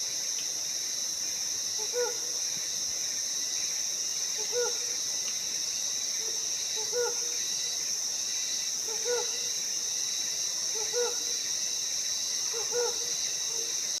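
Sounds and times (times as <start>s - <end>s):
forest insects buzzing: 0.0s - 14.0s.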